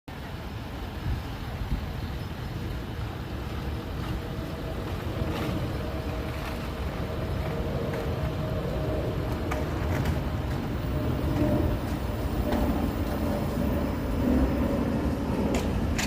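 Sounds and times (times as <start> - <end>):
jet engines rumbling: 0.1 - 16.0
jet engine whine: 0.2 - 16.0.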